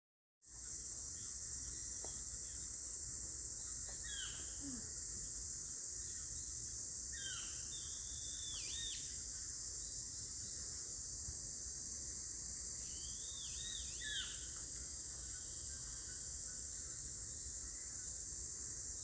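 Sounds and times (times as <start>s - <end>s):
steady high hiss: 0.5s - 19.0s.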